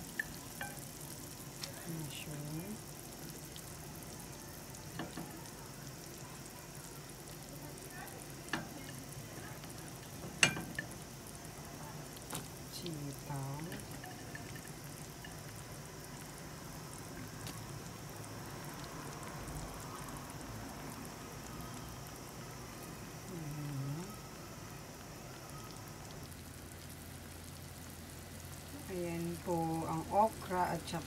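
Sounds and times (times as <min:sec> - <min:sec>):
broth simmering and bubbling: 0:00.0 - 0:31.0.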